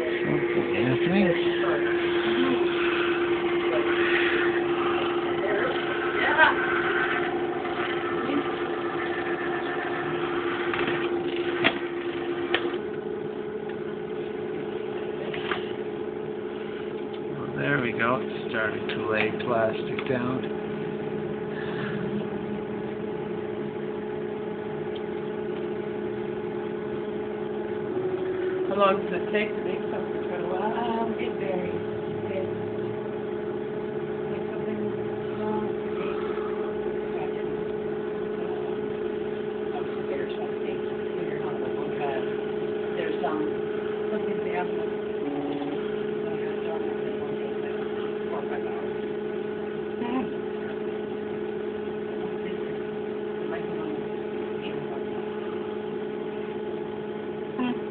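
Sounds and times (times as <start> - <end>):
stepper motors humming: 0.0 - 57.9.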